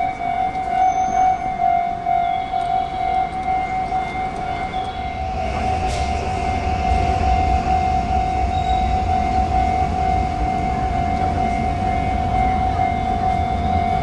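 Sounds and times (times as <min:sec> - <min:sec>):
level-crossing warning bell: 0:00.0 - 0:14.0
train rumbling over crossing: 0:00.0 - 0:14.0.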